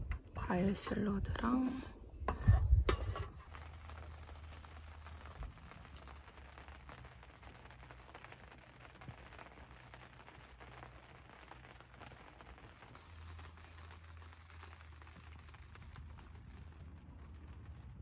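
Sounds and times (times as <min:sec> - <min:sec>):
rain pattering on a tent: 0:00.0 - 0:00.6, 0:01.4 - 0:18.0.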